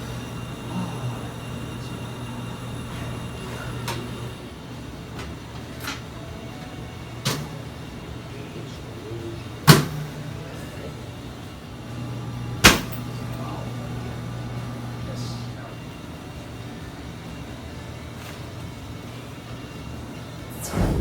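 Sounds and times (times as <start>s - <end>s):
steady low hum: 0.0s - 18.1s, 18.8s - 21.0s.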